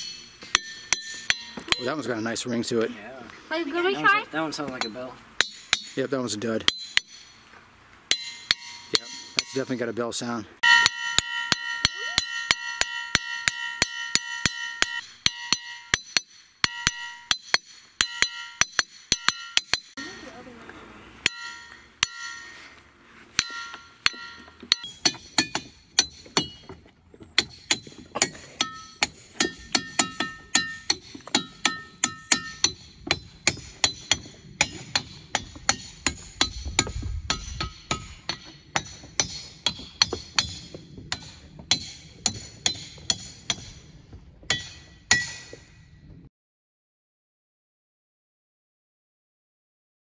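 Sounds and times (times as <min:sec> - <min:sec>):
hammer striking ringing rocks: 0:00.0 - 0:02.7, 0:04.6 - 0:07.4, 0:08.1 - 0:20.3, 0:21.2 - 0:22.6, 0:23.3 - 0:45.9.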